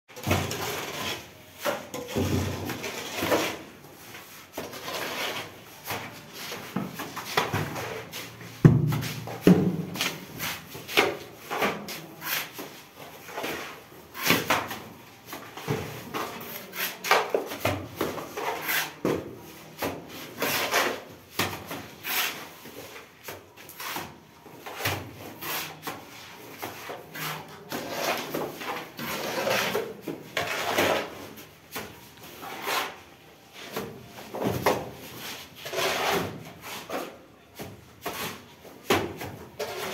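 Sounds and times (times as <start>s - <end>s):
mortar stirred in metal pans: 0.1s - 39.9s.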